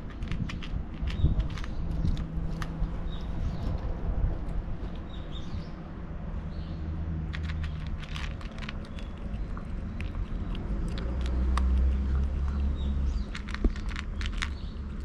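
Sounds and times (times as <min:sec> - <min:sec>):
cat crunching dry kibble: 0:00.0 - 0:05.5, 0:07.2 - 0:15.0.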